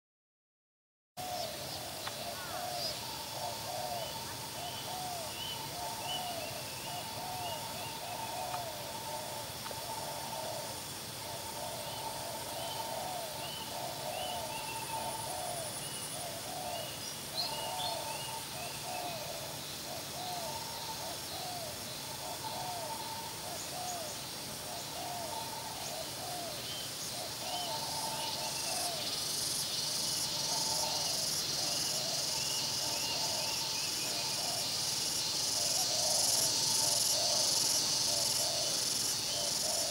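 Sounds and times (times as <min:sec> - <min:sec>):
doves cooing: 0:01.2 - 0:39.9
insects hissing: 0:01.2 - 0:39.9.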